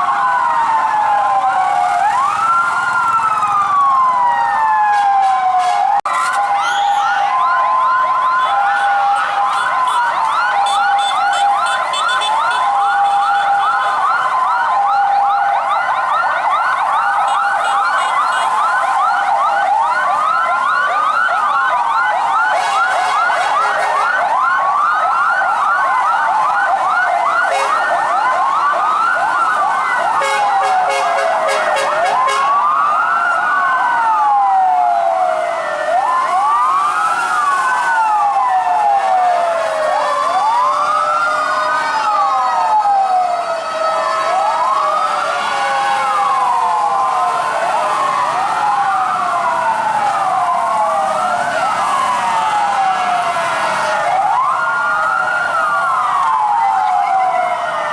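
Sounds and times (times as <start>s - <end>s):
two-tone hi-lo siren: 0.0s - 57.9s
wailing siren: 0.0s - 57.9s
yelping siren sweeps: 0.0s - 57.9s.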